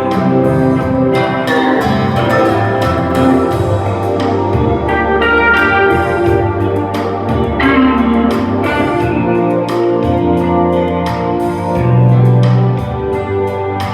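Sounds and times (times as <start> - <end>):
music through loudspeakers: 0.0 - 13.9.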